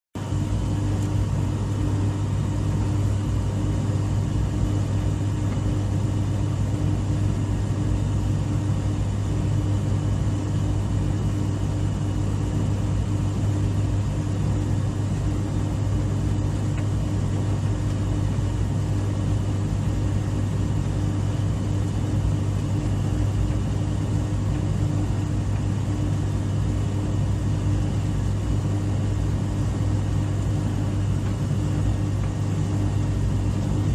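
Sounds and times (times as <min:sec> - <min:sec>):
dryer humming: 0:00.2 - 0:33.9.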